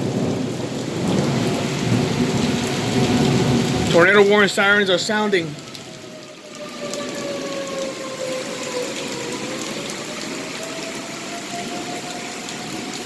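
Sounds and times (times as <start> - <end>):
rain hissing: 0.0 - 13.0
warning siren wailing: 0.8 - 13.0.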